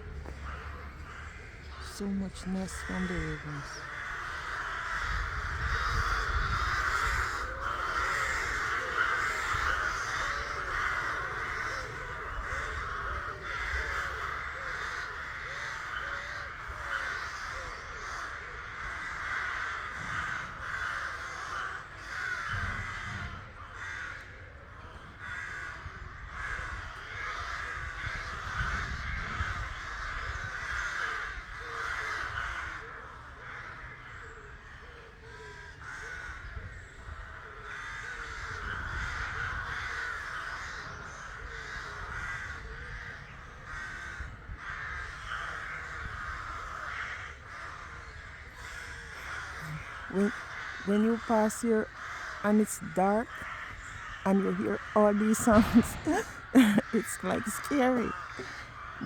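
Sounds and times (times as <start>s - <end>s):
ravens cawing: 0.2s - 59.0s.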